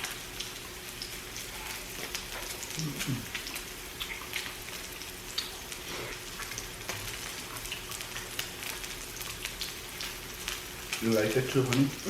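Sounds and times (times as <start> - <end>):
meat sizzling on a grill: 0.0 - 12.0
spattering fat crackles and pops: 0.0 - 12.0.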